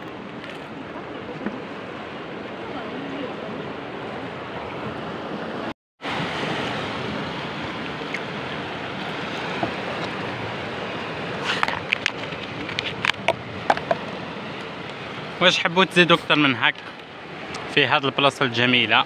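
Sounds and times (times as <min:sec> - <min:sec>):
surf washing against rocks: 0:00.0 - 0:19.0.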